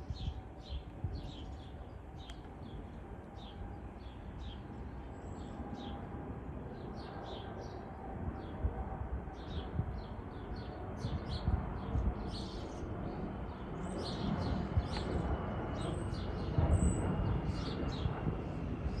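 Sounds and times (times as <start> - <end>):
jet airliner rumble overhead: 0.0 - 19.0.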